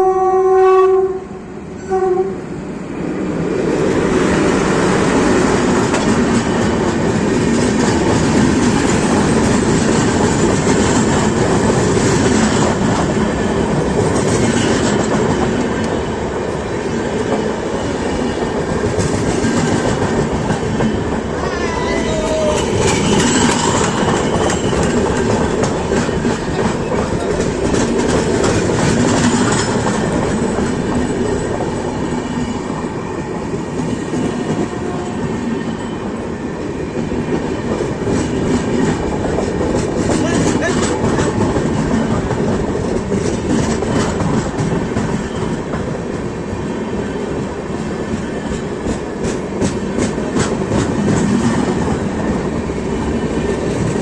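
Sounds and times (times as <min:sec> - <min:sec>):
train wheels rumbling on rails: 0:01.6 - 0:54.0.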